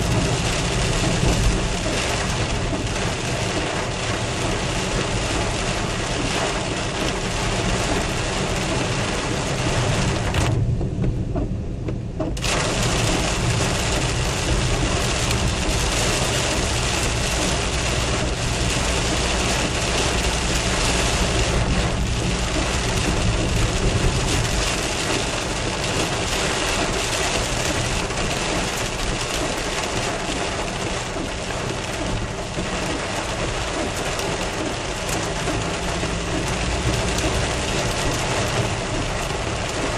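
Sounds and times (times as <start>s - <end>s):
car engine and tyres: 0.0s - 39.9s
heavy rain pelting a car: 0.0s - 39.9s.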